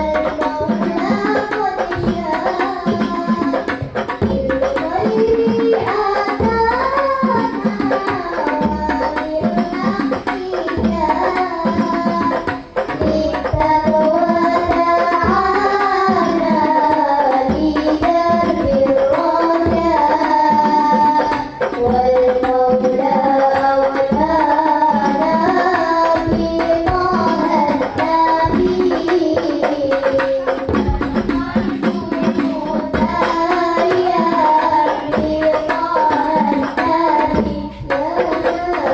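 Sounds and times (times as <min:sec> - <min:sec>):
hand drums: 0:00.0 - 0:38.9.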